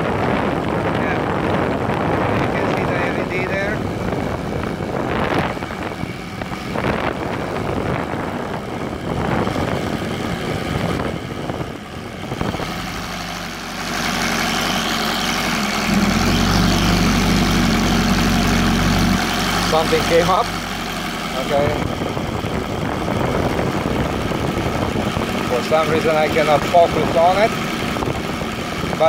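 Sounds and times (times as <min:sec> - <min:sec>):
model radial engine running: 0:00.0 - 0:29.0.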